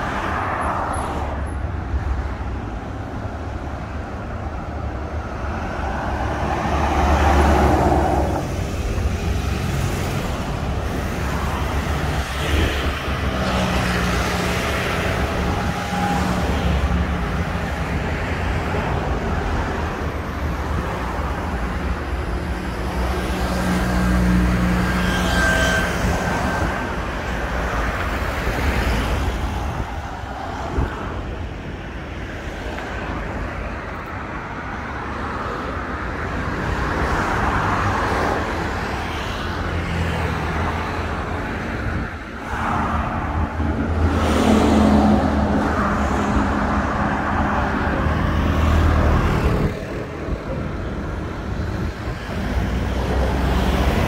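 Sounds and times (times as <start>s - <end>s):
traffic rumble of cars and tyres: 0.0s - 54.0s
vehicles passing with engine drone: 0.0s - 54.0s.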